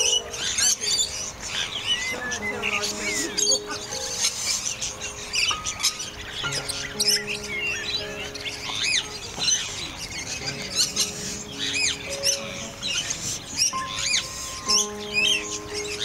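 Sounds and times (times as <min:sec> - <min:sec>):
background music of sustained chords: 0:00.0 - 0:16.0
small birds chirping: 0:00.0 - 0:16.0.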